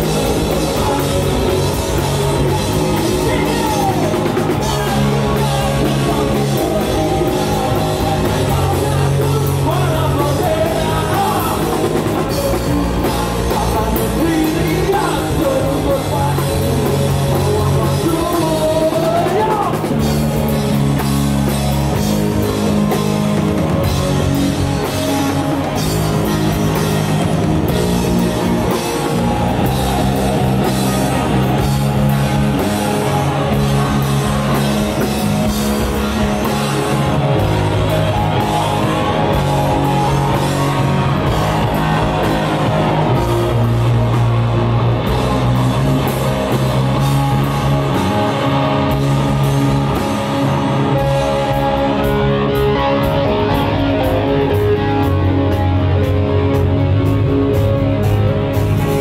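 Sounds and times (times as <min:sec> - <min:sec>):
bass guitar: 0:00.0 - 0:59.0
distorted electric guitars: 0:00.0 - 0:59.0
drum kit beat: 0:00.0 - 0:59.0.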